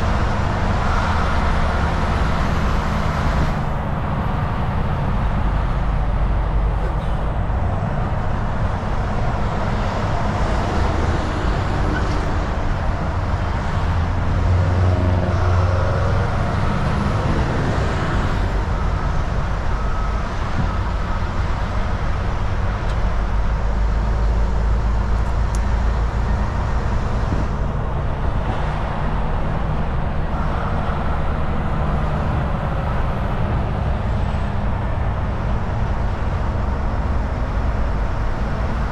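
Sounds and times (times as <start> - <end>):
diesel engine drone: 0.0 - 38.9
tyre and road noise: 0.0 - 38.9.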